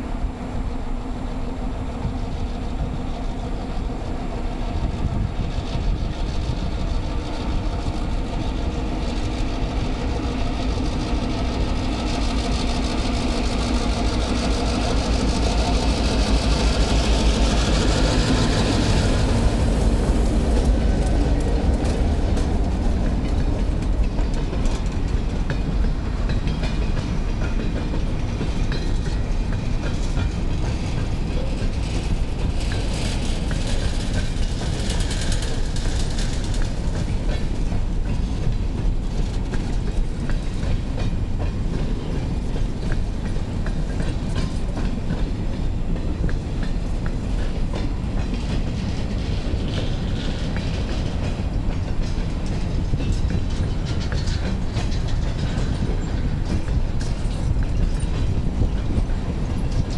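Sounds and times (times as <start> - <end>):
diesel locomotive engines: 0.0 - 59.9
wheels clicking over rail joints: 5.1 - 59.9.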